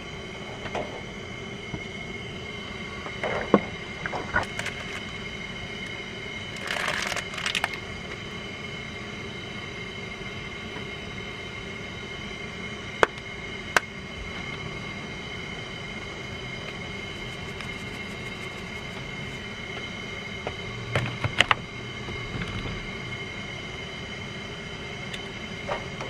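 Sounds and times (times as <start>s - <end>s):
gas stove burner hissing: 0.0s - 26.0s.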